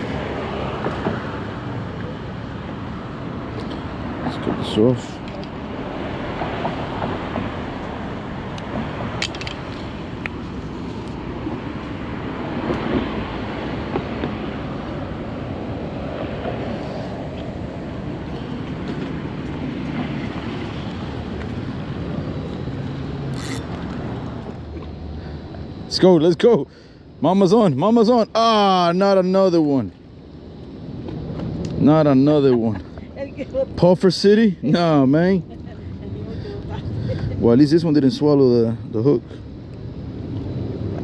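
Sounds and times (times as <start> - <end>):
passing vehicles rumbling: 0.0 - 41.0.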